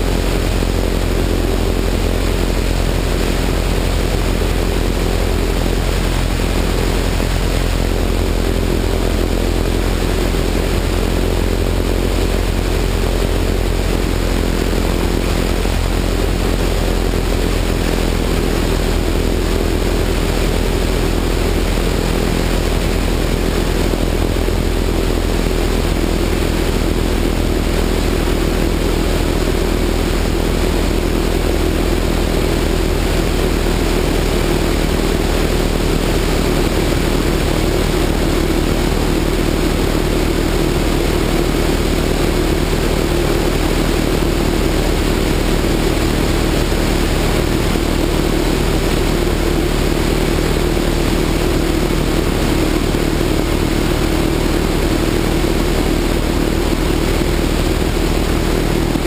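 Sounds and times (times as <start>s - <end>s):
biplane engine droning: 0.0s - 59.0s.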